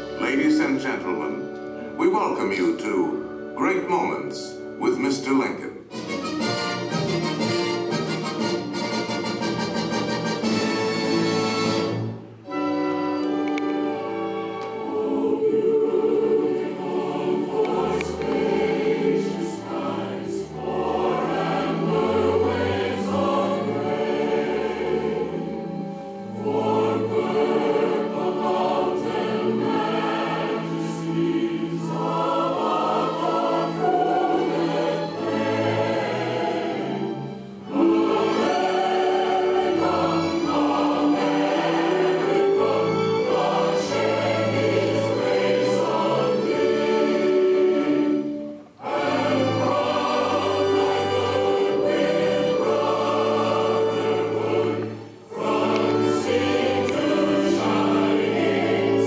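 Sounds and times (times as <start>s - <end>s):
choir singing with instruments: 0.0s - 59.0s.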